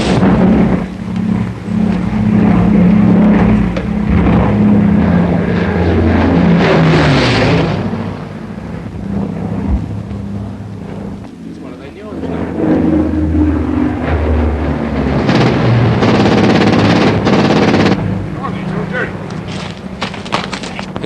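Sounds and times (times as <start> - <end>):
propeller aircraft engines droning: 0.0 - 21.0
rushing noise of plane passing: 0.0 - 21.0.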